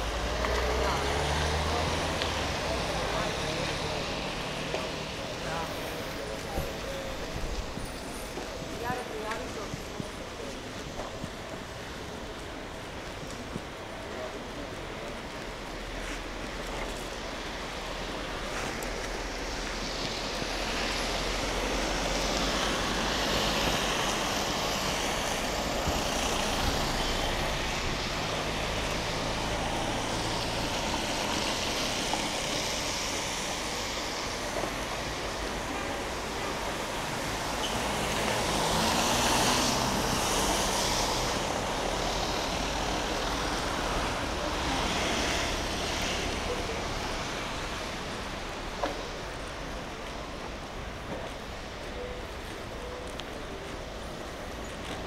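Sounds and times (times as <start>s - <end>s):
cars passing on wet road: 0.0s - 55.0s.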